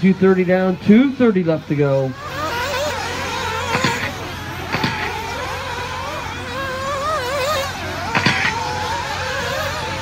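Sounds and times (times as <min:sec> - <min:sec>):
rc buggy engines whining: 0:00.0 - 0:10.0.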